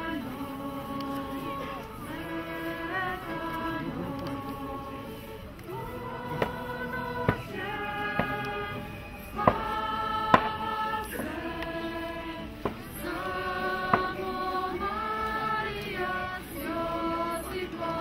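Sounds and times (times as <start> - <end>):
choir singing long notes: 0.0 - 18.0.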